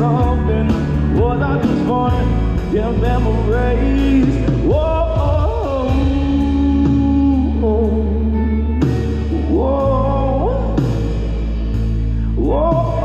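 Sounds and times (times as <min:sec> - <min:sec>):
live band playing slow song: 0:00.0 - 0:13.0.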